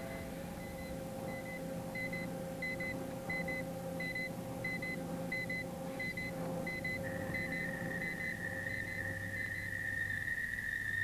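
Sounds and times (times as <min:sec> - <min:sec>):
continuous high tone: 0:00.0 - 0:11.0
steady electrical hum: 0:00.0 - 0:11.0.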